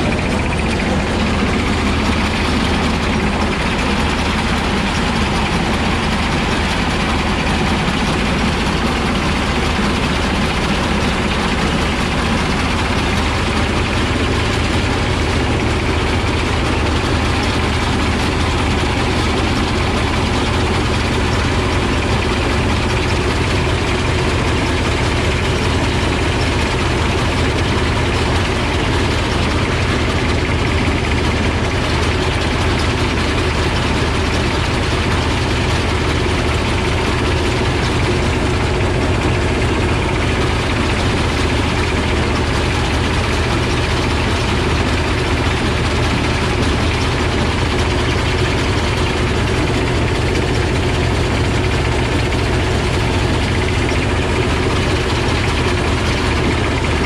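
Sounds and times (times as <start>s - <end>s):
motorised thresher running: 0.0s - 57.0s.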